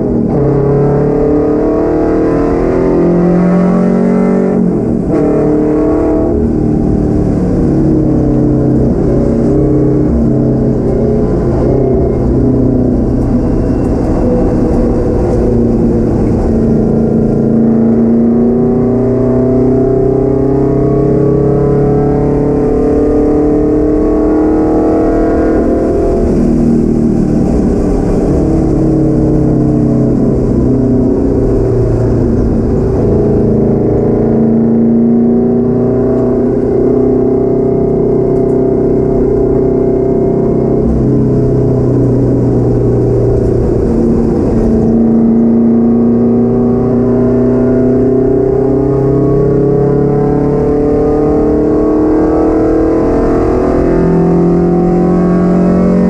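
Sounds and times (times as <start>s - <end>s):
car engine drone: 0.0s - 56.0s.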